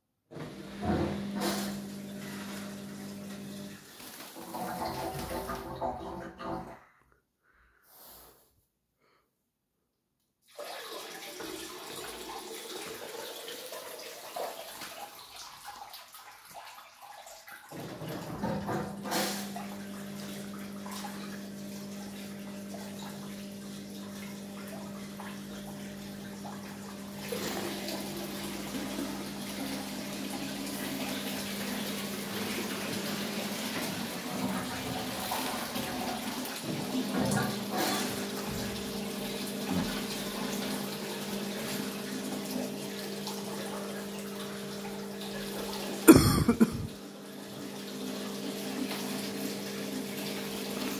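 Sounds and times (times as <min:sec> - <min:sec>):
washing machine hum: 0:00.3 - 0:07.0, 0:10.5 - 0:50.9
water rushing in washing machine: 0:00.3 - 0:07.0, 0:10.4 - 0:50.9.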